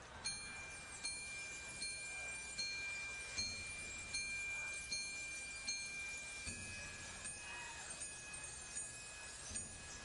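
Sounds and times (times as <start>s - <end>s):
mallet percussion struck notes: 0.0s - 10.0s
steady high held tone: 0.0s - 10.0s.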